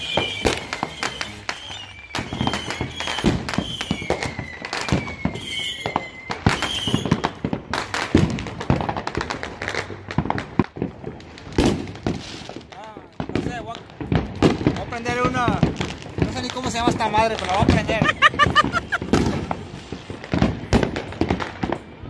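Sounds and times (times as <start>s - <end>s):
firework whistling: 0.0s - 12.7s, 13.3s - 22.0s
fireworks and firecrackers banging: 0.0s - 22.0s.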